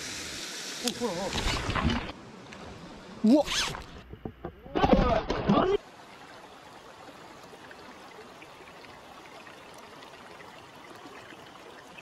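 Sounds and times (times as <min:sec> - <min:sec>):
river water running over stones: 0:00.0 - 0:04.1, 0:04.7 - 0:12.0.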